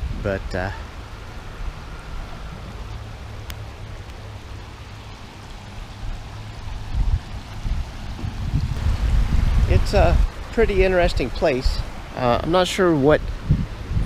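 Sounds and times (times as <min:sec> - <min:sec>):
flowing creek water: 0:00.0 - 0:14.0.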